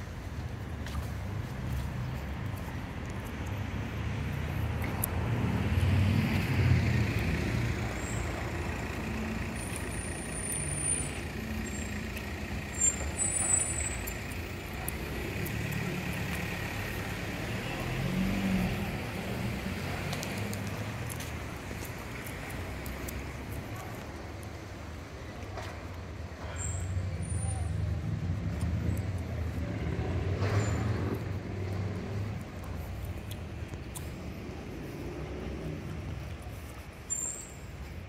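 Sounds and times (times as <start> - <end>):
heavy vehicle engine rumble: 0.0 - 38.0.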